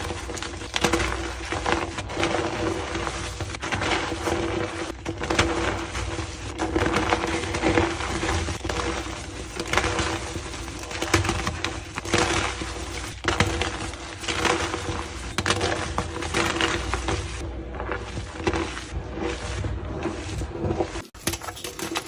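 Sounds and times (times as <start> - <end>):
chalk blocks crunching and crumbling: 0.0 - 22.0.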